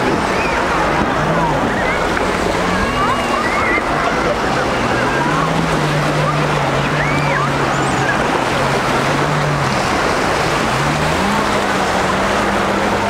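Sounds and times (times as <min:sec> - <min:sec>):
jet ski engine humming: 0:00.0 - 0:13.0
small waves washing: 0:00.0 - 0:13.0.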